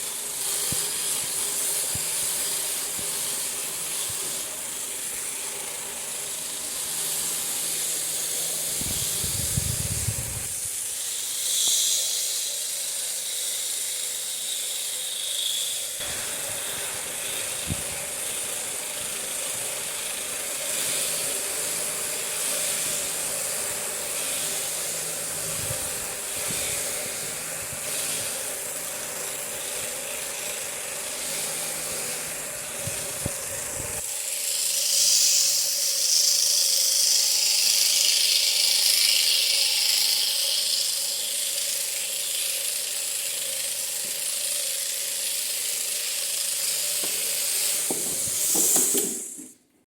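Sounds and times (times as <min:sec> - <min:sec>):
electric sheep shears running: 0:00.0 - 0:49.5.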